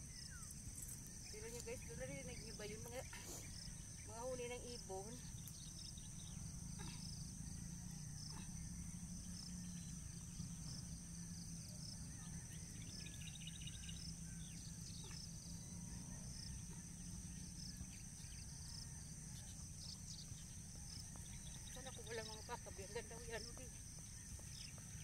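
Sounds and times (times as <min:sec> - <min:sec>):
birds chirping: 0:00.0 - 0:25.0
low steady rumble: 0:00.0 - 0:25.0.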